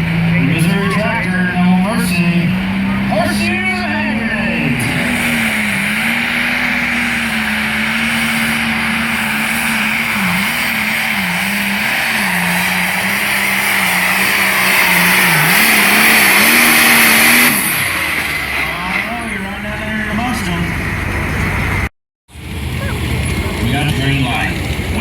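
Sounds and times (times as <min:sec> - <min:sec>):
truck engine revving under load: 0:00.0 - 0:25.0.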